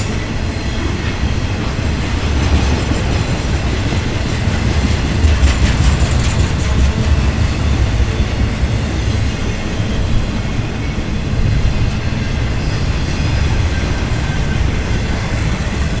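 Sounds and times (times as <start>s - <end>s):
heavy rumble of train wheels: 0.0s - 16.0s.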